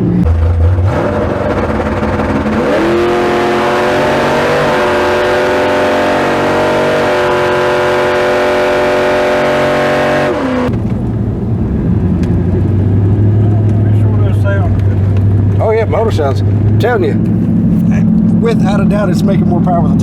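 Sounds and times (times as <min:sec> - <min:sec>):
engine at full throttle: 0:00.0 - 0:20.0.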